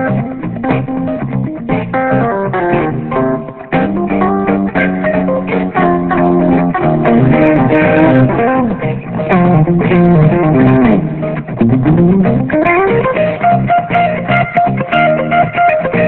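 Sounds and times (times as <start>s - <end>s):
bass guitar: 0.0s - 16.0s
guitar with sliding notes: 0.0s - 16.0s.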